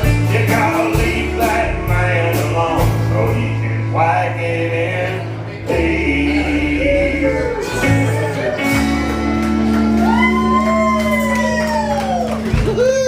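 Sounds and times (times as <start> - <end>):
live band final chord: 0.0 - 12.8.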